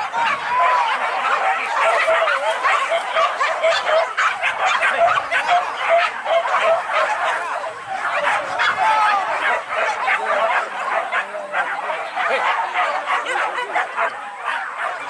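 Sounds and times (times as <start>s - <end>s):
dogs yelping and yipping: 0.0s - 15.0s.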